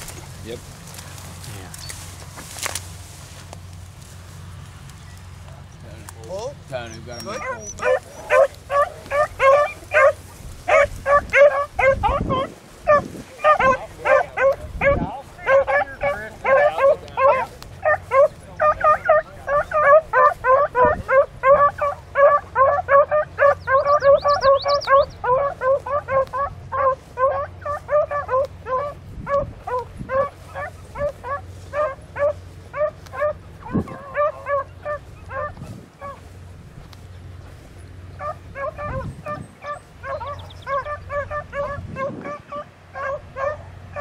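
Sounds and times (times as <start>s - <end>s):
beagles baying: 3.8s - 44.0s.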